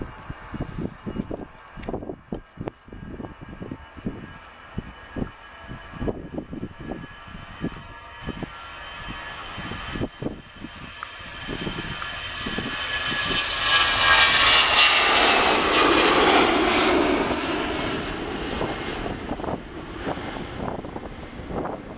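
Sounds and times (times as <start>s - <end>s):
jet engines roaring with whine: 0.0s - 21.9s.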